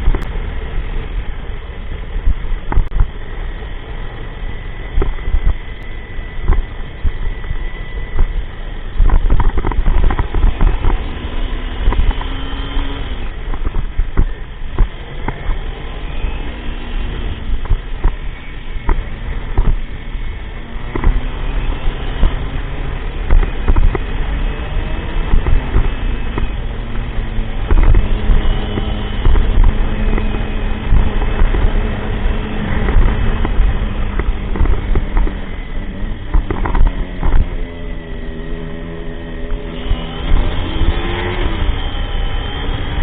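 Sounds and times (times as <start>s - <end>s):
motorcycle engine: 0.0s - 43.0s
wind buffeting microphone: 0.0s - 43.0s.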